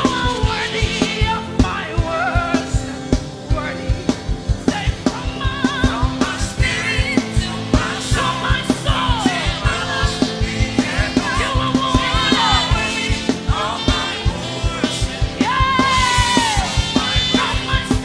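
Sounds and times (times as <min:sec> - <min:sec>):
band playing upbeat worship song: 0:00.0 - 0:18.0
fast steady drum beat: 0:00.0 - 0:18.0
lead singer singing: 0:00.0 - 0:18.0.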